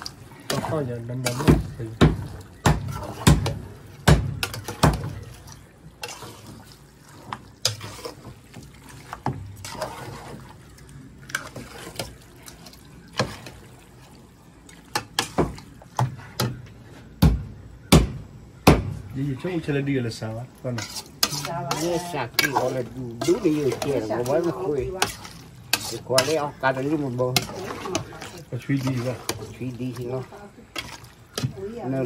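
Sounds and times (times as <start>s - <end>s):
meat squelching while stirred: 0.0s - 32.0s.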